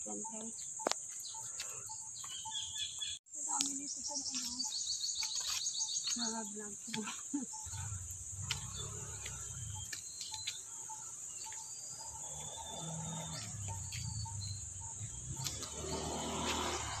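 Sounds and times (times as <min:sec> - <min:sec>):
birds chirping: 0:00.0 - 0:17.0
insects droning: 0:00.0 - 0:17.0.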